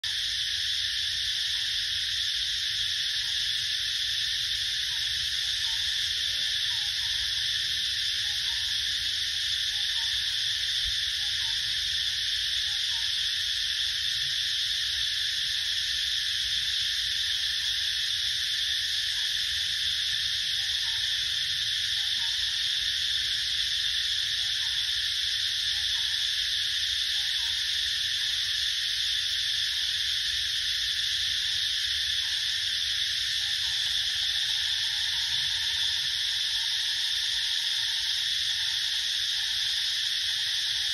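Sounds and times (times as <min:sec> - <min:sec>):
forest insects buzzing: 0:00.0 - 0:40.9.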